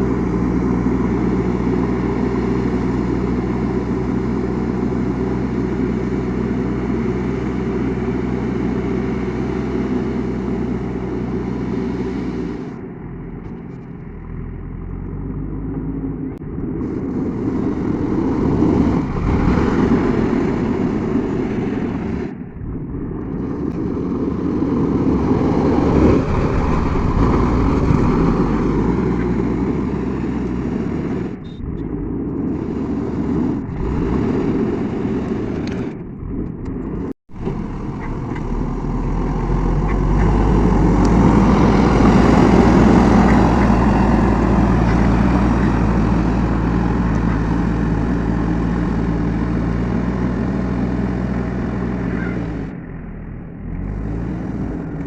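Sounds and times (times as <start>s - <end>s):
diesel engine heavy drone: 0.0s - 55.0s.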